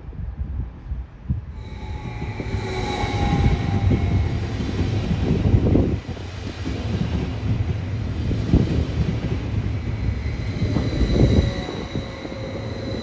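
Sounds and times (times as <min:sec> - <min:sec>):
electric train rumble: 0:01.3 - 0:13.0
high whine: 0:01.4 - 0:13.0.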